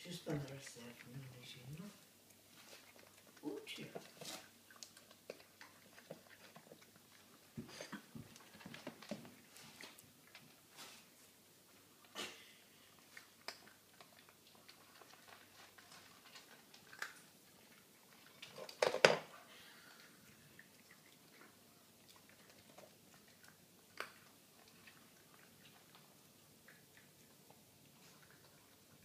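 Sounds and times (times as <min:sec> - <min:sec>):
puppy chewing and biting: 0:00.1 - 0:12.2, 0:12.8 - 0:29.0.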